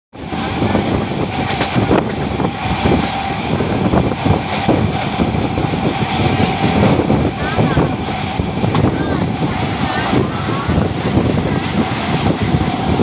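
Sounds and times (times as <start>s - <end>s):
train wheels rumbling on rails: 0.2s - 13.0s.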